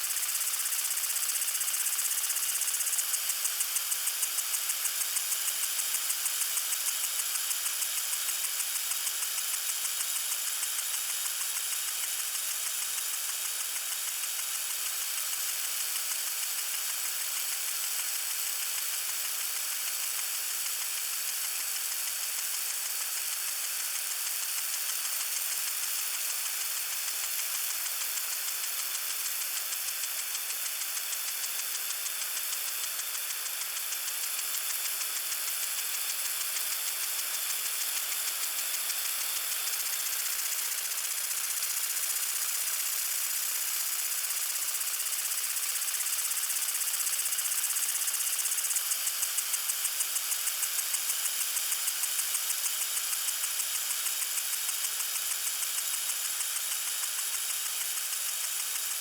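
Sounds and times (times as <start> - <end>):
water sprinkler spraying: 0.0 - 59.0.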